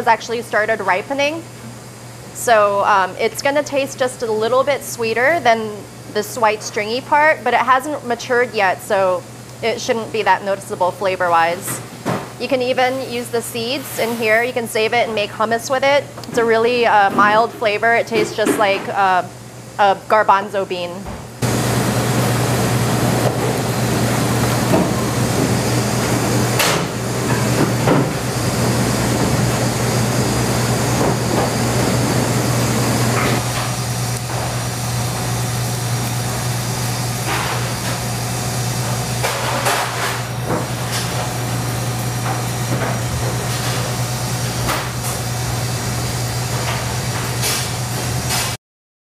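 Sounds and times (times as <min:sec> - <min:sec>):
kitchen equipment humming: 0:00.0 - 0:48.6.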